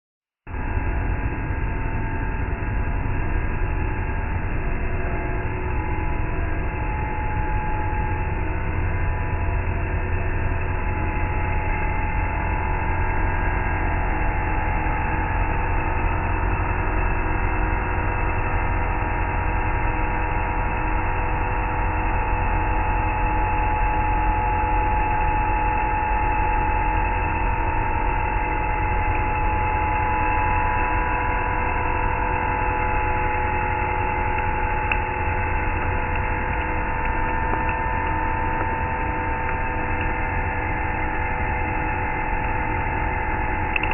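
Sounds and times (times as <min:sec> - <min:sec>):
wavering machine whine: 0:00.5 - 0:43.9
milling machine hum: 0:00.6 - 0:43.9.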